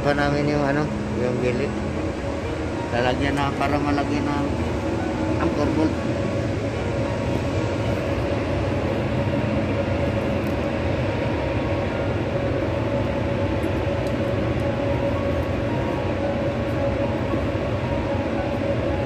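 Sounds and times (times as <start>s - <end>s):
industrial machinery drone: 0.0s - 19.0s.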